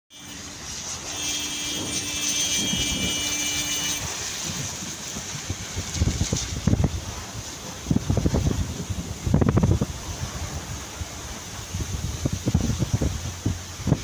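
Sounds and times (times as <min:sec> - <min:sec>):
steady high whine: 0:00.1 - 0:14.0
storm wind and heavy rain: 0:00.1 - 0:14.0
wind buffeting microphone: 0:00.2 - 0:14.0.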